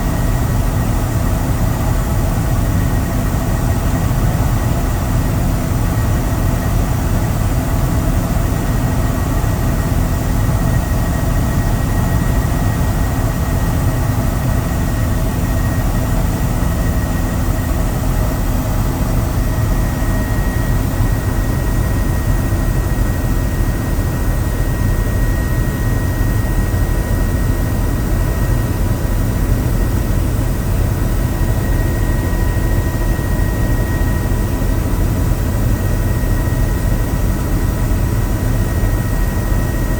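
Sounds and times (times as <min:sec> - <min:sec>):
helicopter rotor and engine drone: 0:00.0 - 0:39.9
thin steady whine: 0:00.0 - 0:39.9.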